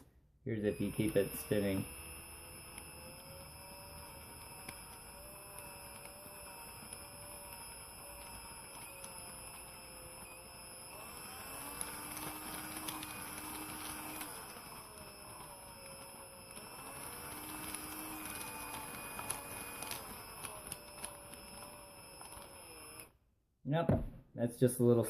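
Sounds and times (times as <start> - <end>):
drill motor whine: 0.0 - 23.2
plastic gears clicking: 0.7 - 23.1.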